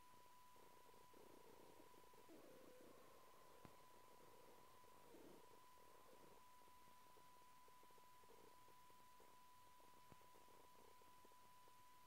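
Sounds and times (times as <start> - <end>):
faint steady high tone: 0.0 - 12.0
cat purring: 0.5 - 12.0.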